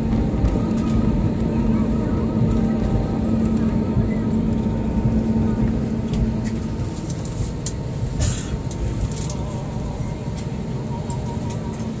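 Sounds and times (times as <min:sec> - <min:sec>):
low rumble in aircraft cabin: 0:00.0 - 0:12.0.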